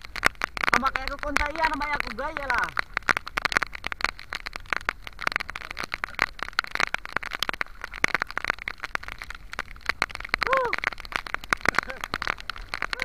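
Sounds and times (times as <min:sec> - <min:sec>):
heavy rain falling on the sea: 0:00.0 - 0:13.0.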